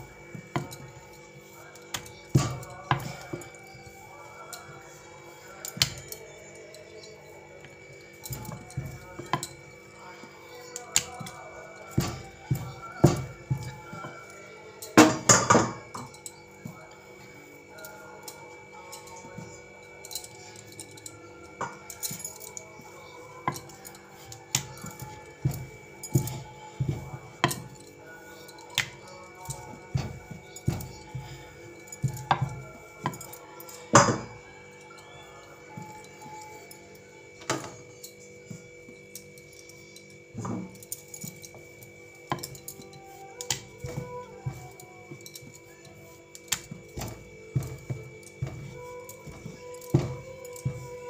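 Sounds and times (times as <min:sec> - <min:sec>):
background music: 0:00.0 - 0:51.0
rolling pin rolling dough: 0:00.0 - 0:51.0.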